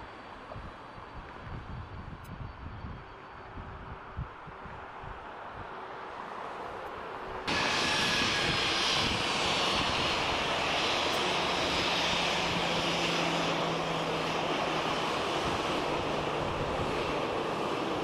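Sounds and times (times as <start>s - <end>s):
jet engines at taxi power: 0.0s - 18.0s.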